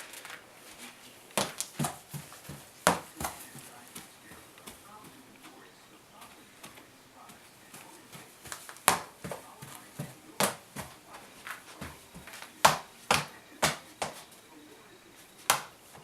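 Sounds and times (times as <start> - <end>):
hard-soled shoes clacking on floor: 0.7 - 14.6, 15.2 - 16.0.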